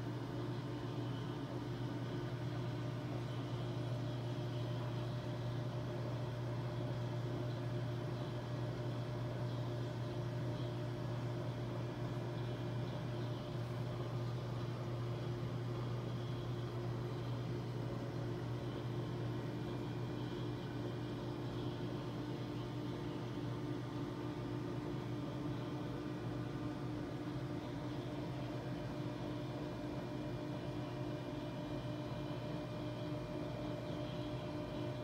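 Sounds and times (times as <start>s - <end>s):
aquarium pumps humming and hissing: 0.0s - 35.0s.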